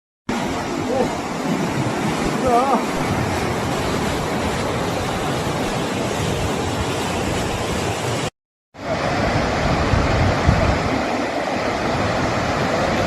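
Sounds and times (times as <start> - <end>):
floodwater rushing: 0.3 - 13.0.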